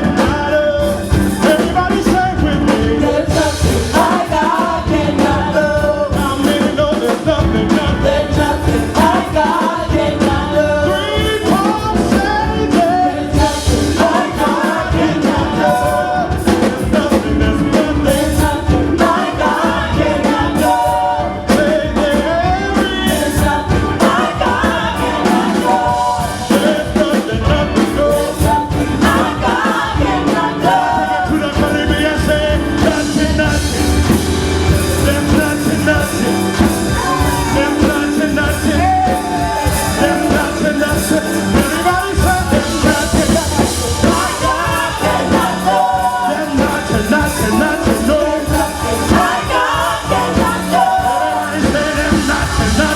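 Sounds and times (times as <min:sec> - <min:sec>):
drums: 0:00.0 - 0:52.9
people singing: 0:00.0 - 0:52.9
worship band music: 0:00.0 - 0:52.9.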